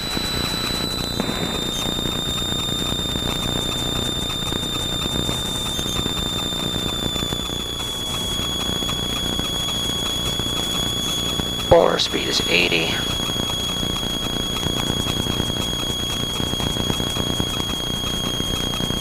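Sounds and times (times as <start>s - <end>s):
aircraft cabin engine noise: 0.0s - 19.0s
high-pitched whine: 0.0s - 19.0s.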